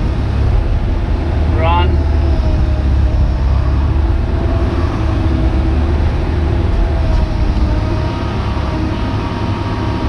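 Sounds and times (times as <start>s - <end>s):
excavator engine rumble: 0.0s - 10.0s.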